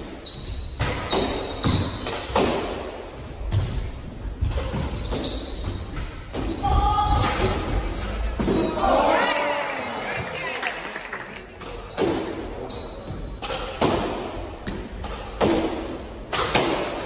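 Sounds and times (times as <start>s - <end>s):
sneakers squeaking on hardwood: 0.0s - 8.8s, 11.6s - 17.0s.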